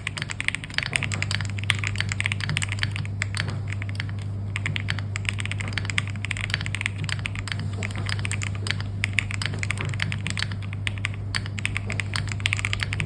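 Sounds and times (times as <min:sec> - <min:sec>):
fast typing on mechanical keyboard: 0:00.0 - 0:13.0
steady low hum: 0:00.0 - 0:13.0.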